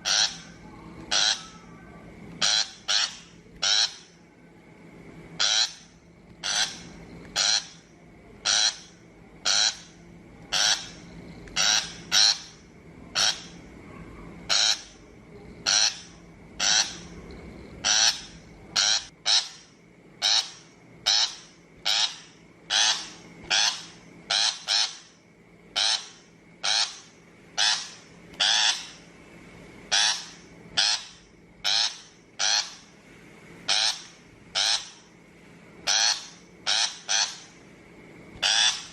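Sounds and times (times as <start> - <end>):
shrike harsh grating calls: 0.0 - 4.2, 5.4 - 13.7, 14.4 - 29.1, 29.9 - 33.0, 33.6 - 35.1, 35.8 - 37.6, 38.4 - 38.9.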